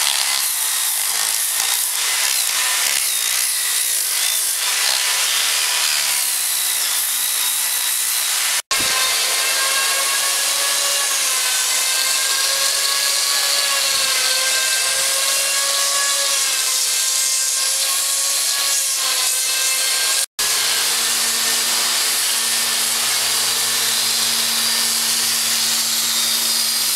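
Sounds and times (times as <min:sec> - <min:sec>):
power tool grinding wood: 0:00.0 - 0:26.9.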